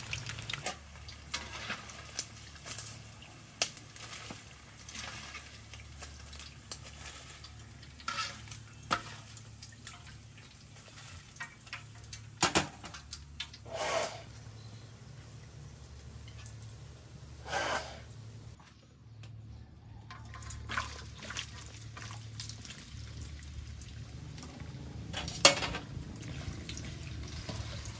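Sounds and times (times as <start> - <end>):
oil bubbling and sizzling: 0.0 - 18.6, 19.9 - 27.9.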